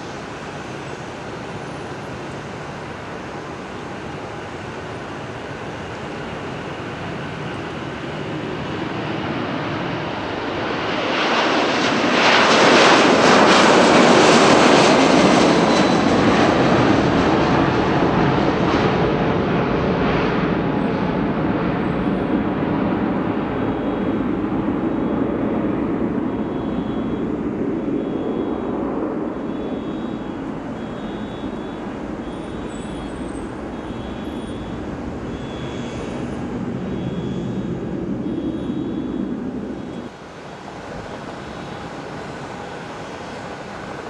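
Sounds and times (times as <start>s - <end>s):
jet engines roaring: 0.0s - 44.0s
steady background noise: 0.0s - 44.0s.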